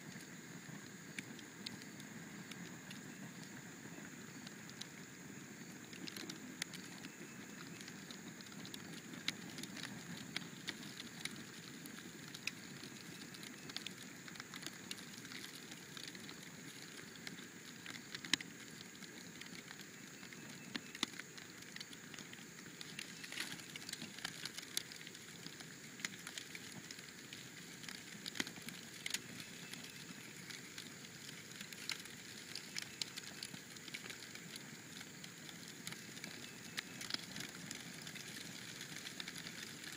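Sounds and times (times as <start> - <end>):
cardboard fire crackling: 0.0 - 39.9
soft steady rush of flames: 0.0 - 39.9.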